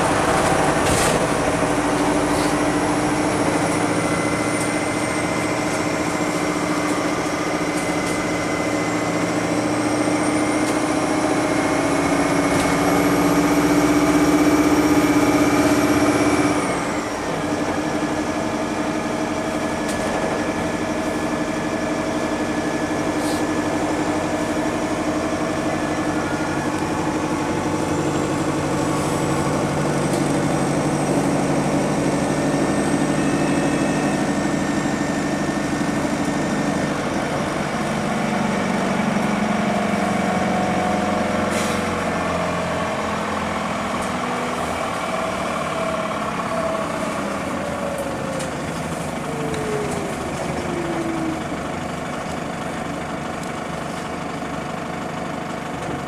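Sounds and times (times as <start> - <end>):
bus diesel engine: 0.0 - 56.0
high engine whine: 0.0 - 56.0.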